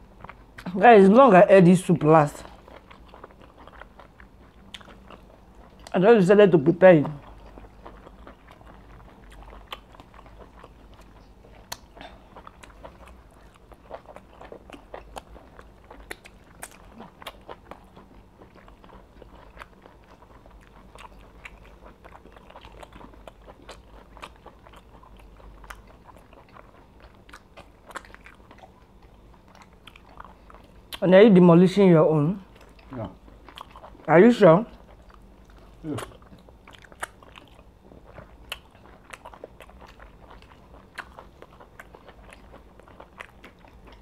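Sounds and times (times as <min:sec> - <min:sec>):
people chewing and lip smacking: 0:00.0 - 0:00.8, 0:02.3 - 0:06.0, 0:06.6 - 0:31.0, 0:32.4 - 0:44.0.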